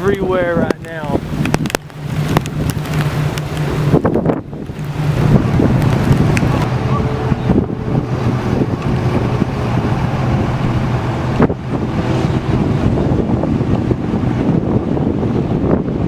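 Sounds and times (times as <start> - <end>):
heavy rain: 0.0 - 14.4
vehicle rumble: 0.0 - 16.0
wind buffeting microphone: 0.0 - 16.0.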